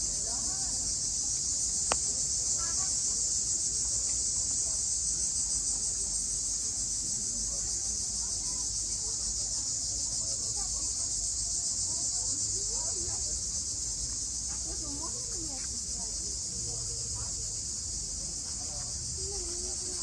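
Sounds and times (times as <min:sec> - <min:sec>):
faint voices: 0:00.0 - 0:20.0
high-pitched insect chorus: 0:00.0 - 0:20.0.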